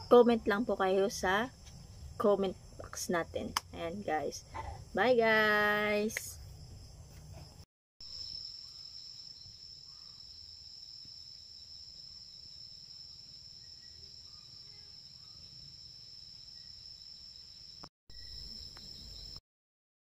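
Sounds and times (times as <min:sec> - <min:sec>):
crickets trilling: 0:00.0 - 0:19.4.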